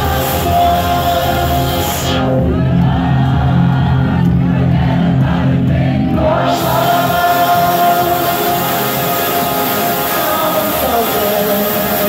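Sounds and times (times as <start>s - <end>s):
trance dance music: 0.0s - 12.0s.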